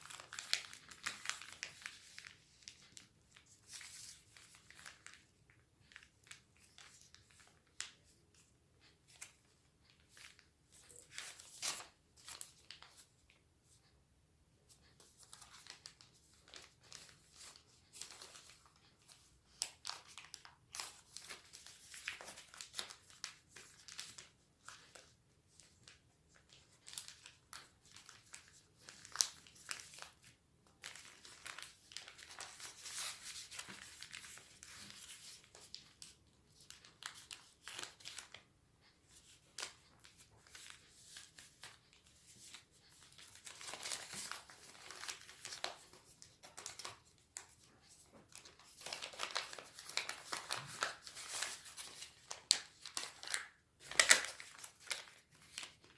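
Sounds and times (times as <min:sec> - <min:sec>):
paper rustling and crinkling: 0:00.0 - 0:13.8, 0:14.7 - 0:55.9.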